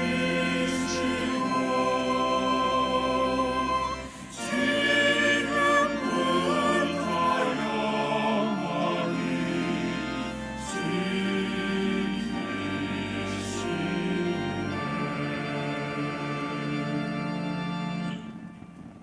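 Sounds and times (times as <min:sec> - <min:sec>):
choir singing: 0:00.0 - 0:18.4
held low notes: 0:00.0 - 0:19.0.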